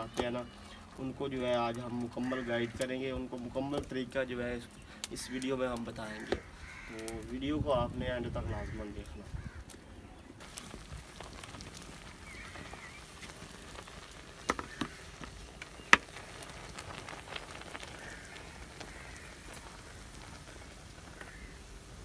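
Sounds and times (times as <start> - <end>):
pot boiling and bubbling: 0.0 - 22.0.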